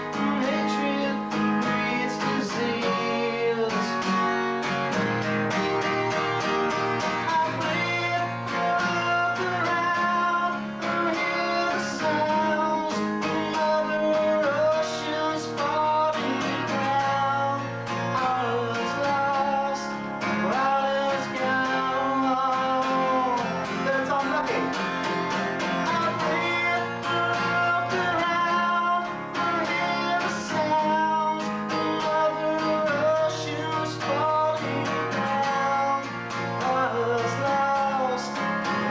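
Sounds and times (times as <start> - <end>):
live guitar music: 0.0 - 38.9.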